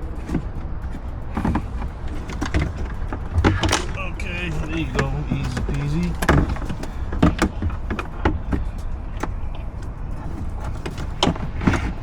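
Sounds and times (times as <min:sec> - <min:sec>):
steady low hum: 0:00.0 - 0:12.0
tools clicking and knocking: 0:00.0 - 0:12.0.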